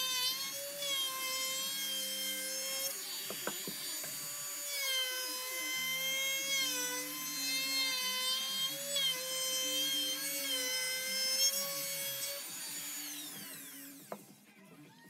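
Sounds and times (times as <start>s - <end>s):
router whining while cutting wood: 0.0s - 14.4s.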